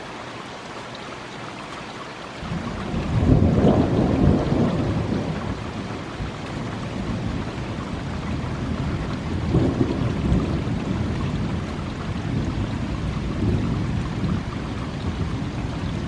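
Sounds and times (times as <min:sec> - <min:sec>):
heavy rain: 0:00.0 - 0:16.0
thunder rumbling: 0:02.5 - 0:16.0.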